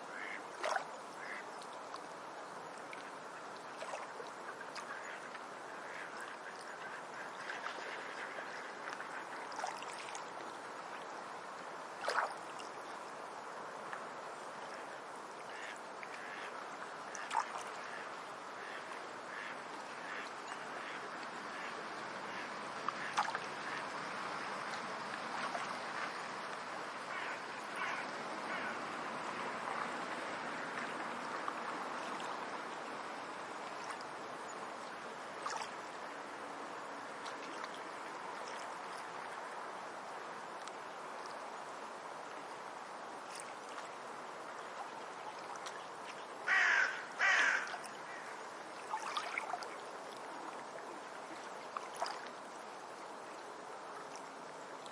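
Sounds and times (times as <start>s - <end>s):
water washing along shore: 0.0s - 54.9s.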